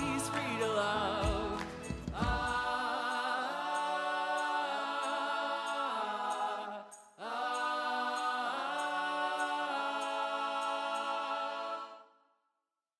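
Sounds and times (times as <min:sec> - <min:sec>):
held chords of hymn music: 0:00.0 - 0:11.8.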